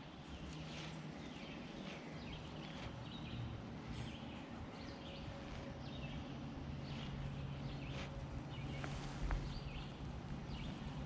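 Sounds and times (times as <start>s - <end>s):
birds chirping: 0.0s - 11.0s
low outdoor rumble: 0.0s - 11.0s.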